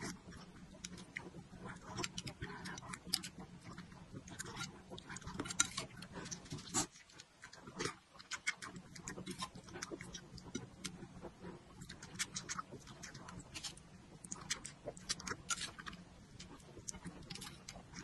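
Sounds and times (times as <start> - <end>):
chewing and lip smacks: 0.0 - 18.0
faint low hum: 0.0 - 18.0.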